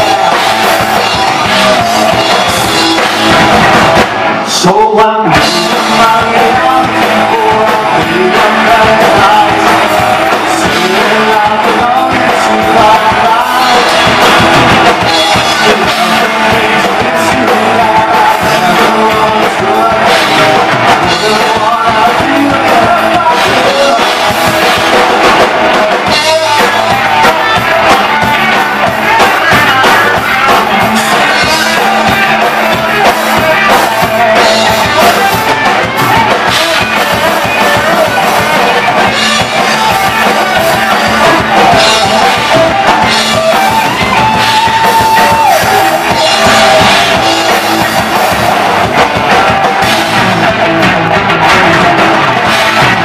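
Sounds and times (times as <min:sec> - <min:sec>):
drum kit: 0:00.0 - 0:53.0
electric bass: 0:00.0 - 0:53.0
electric guitar: 0:00.0 - 0:53.0
person singing: 0:00.0 - 0:53.0.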